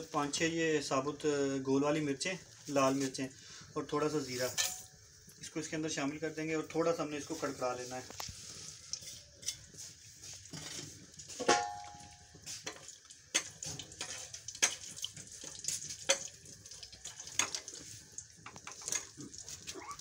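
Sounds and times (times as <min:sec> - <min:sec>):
spices sizzling and popping in oil: 0:00.0 - 0:20.0.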